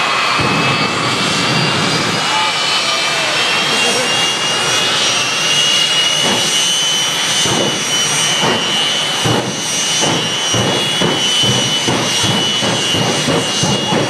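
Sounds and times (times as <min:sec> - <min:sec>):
jet turbine engine running: 0:00.0 - 0:14.0.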